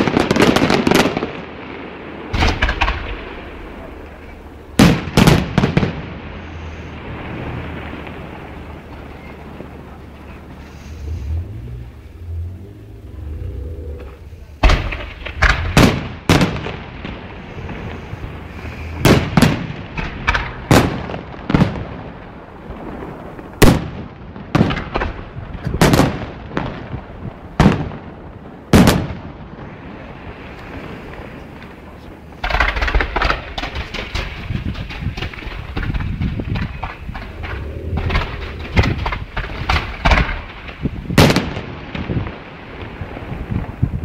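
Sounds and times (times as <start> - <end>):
fireworks banging: 0.0 - 44.0
low rumble: 1.8 - 28.7, 29.4 - 44.0.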